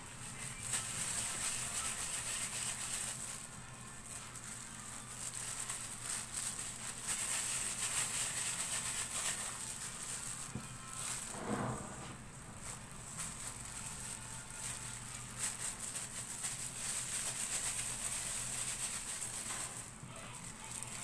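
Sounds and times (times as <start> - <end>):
plastic gloves crinkling: 0.0 - 21.0.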